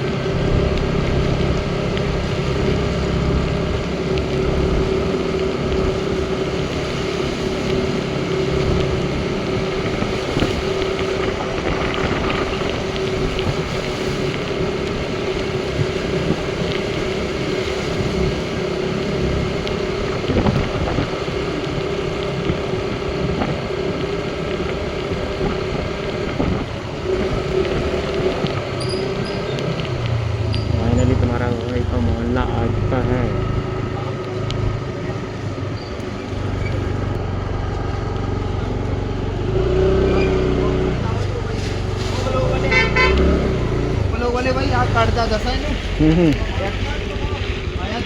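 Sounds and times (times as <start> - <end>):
motorcycle engine drone: 0.0 - 48.0
wind rushing over microphone: 0.0 - 48.0.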